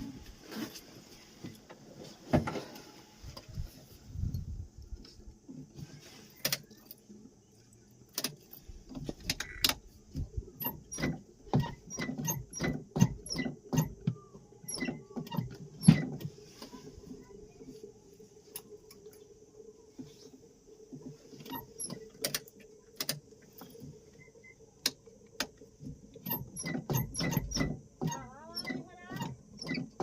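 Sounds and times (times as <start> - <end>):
faint engine running hum: 0.0 - 30.0.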